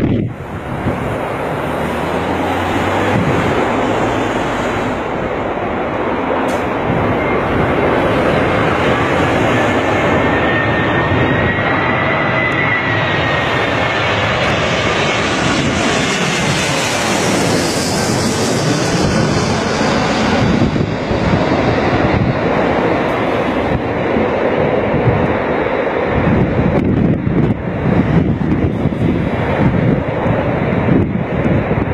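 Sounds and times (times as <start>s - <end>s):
airliner engines running: 0.0s - 31.9s.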